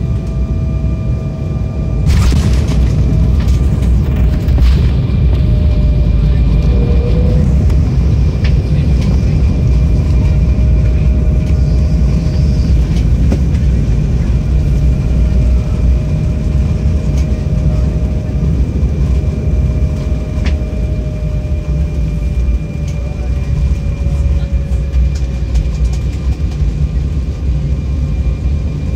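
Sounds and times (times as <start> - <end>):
aircraft cabin rumble: 0.0 - 28.9.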